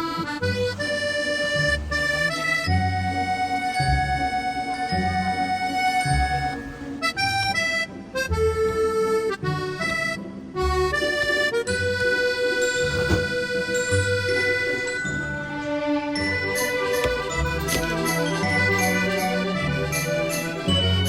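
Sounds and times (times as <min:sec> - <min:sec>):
background music melody: 0:00.0 - 0:21.0.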